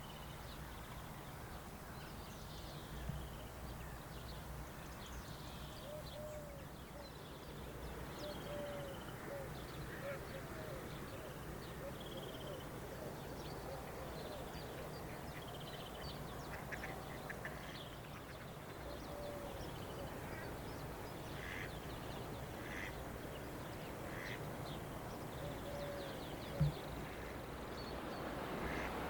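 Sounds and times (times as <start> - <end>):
birds chirping: 2.0 - 29.0.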